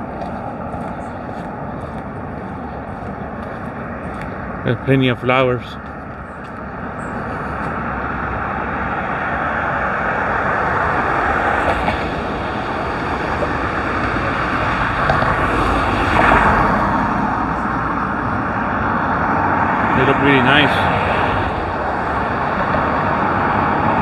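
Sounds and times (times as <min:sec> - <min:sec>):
road traffic rushing: 0:00.0 - 0:24.0.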